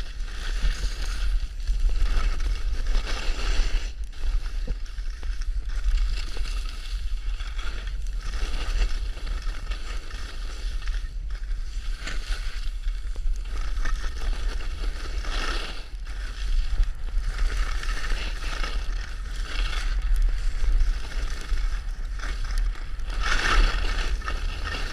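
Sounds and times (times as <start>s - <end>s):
skis scraping over snow: 0.0s - 24.9s.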